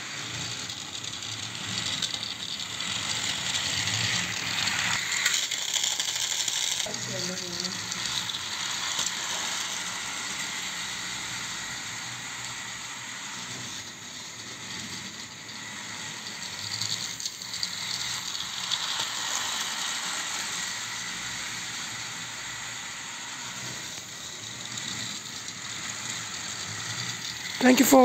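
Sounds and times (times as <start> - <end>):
model train whirring on rails: 0.0 - 28.0.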